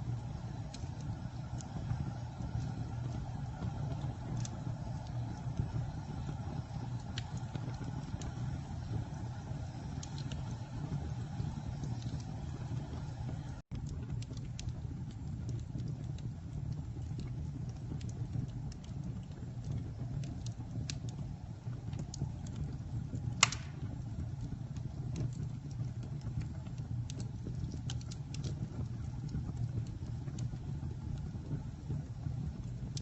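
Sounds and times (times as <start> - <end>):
fire crackles and pops: 0.0 - 33.0
low rumble of flames: 0.0 - 33.0.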